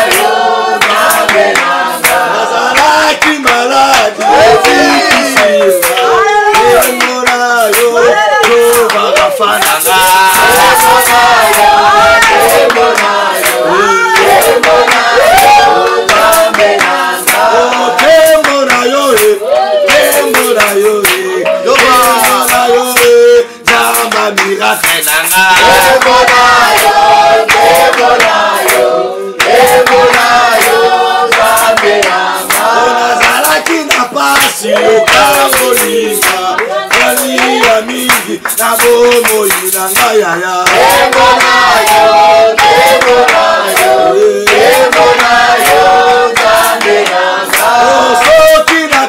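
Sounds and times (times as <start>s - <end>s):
group singing worship song: 0.0s - 49.0s
rhythmic hand clapping: 0.0s - 49.0s.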